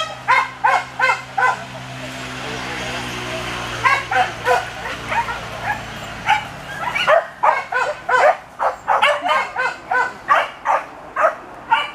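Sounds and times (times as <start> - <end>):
dogs barking and yelping: 0.0 - 1.7, 3.7 - 11.9.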